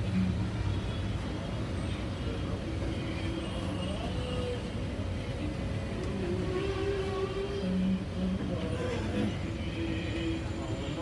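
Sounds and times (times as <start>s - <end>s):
street traffic rumble: 0.0s - 11.0s
faint voices: 1.1s - 11.0s.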